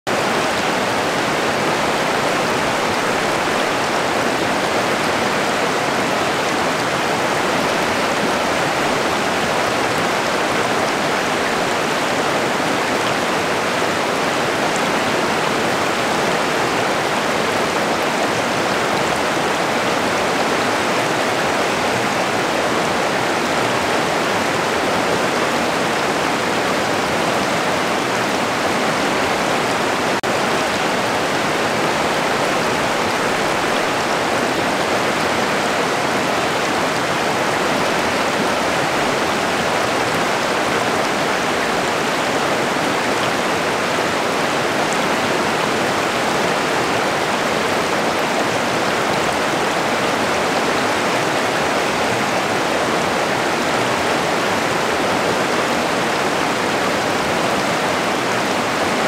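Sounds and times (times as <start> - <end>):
water rushing over rocks: 0.1 - 59.0.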